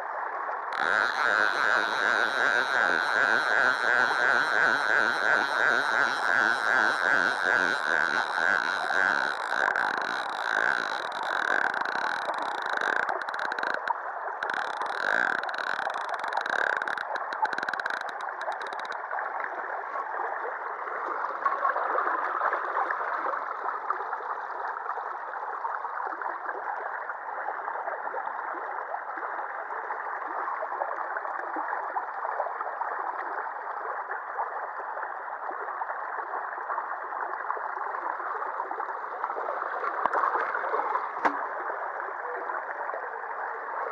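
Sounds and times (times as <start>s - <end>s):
river water flowing and gurgling: 0.0s - 43.9s.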